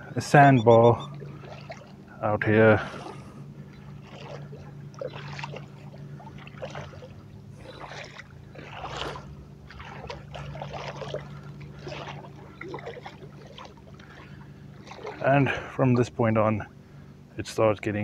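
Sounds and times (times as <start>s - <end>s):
footsteps wading through water: 0.0s - 17.2s
steady low hum: 0.0s - 18.0s.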